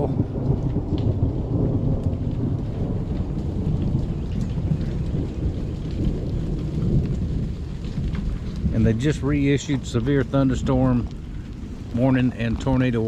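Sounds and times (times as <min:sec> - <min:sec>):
low thunder rumble: 0:00.0 - 0:13.0
rain falling: 0:00.0 - 0:13.0.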